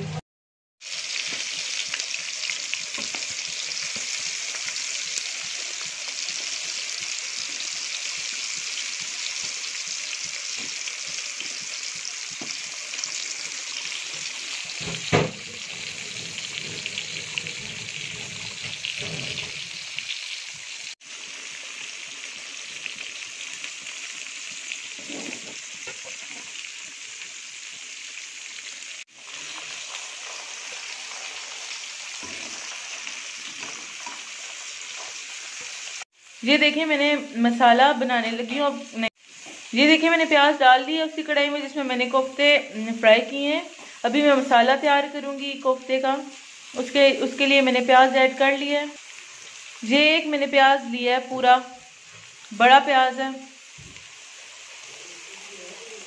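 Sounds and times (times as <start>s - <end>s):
meatballs sizzling in hot oil: 0.8s - 56.0s.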